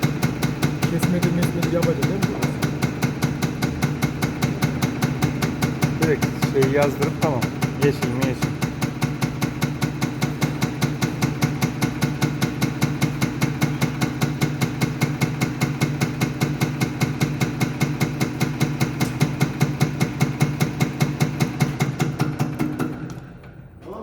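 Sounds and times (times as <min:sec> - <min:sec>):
rapid pumping pulses: 0:00.0 - 0:22.6.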